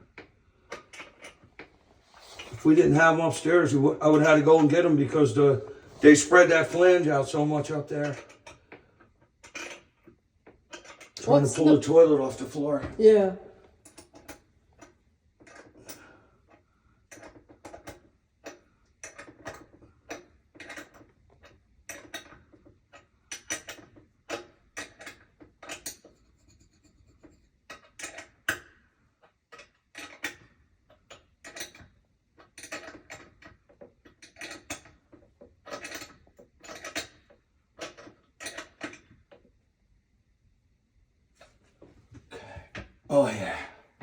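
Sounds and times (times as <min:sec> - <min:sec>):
tools scraping clicking and knocking: 0:00.0 - 0:13.0, 0:13.7 - 0:39.6.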